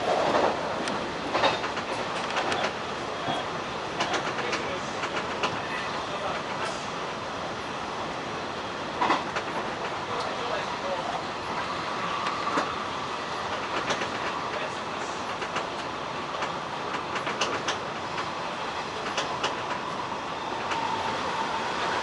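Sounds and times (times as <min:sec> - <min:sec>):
wheels clicking over rail joints: 0:00.0 - 0:06.9, 0:08.9 - 0:22.0
train rumble inside car: 0:00.0 - 0:22.0.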